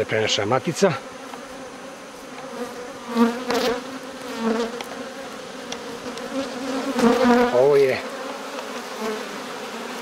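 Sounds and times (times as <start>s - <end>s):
bees humming at hive: 0.0s - 10.0s
single bee flying past: 0.3s - 10.0s.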